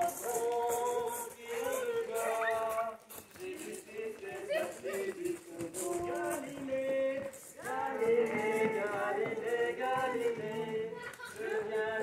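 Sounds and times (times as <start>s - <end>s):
person singing over music: 0.0s - 12.0s.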